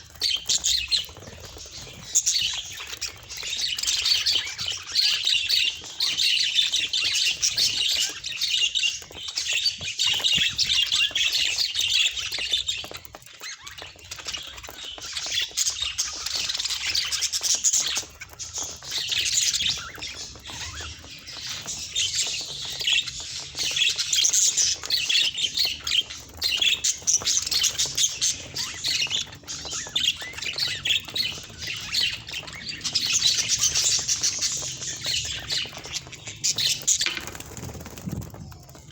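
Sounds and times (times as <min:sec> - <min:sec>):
budgerigars chattering and warbling: 0:00.0 - 0:38.9.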